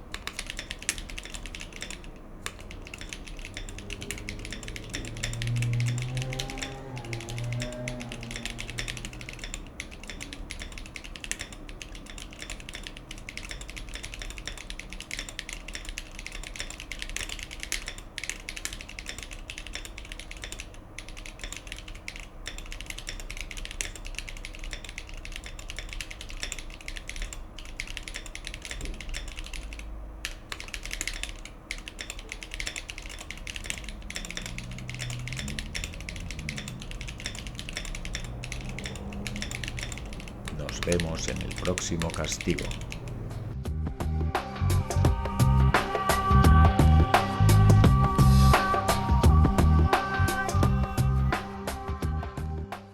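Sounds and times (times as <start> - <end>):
mechanical keyboard typing: 0.0 - 43.6, 45.1 - 51.8.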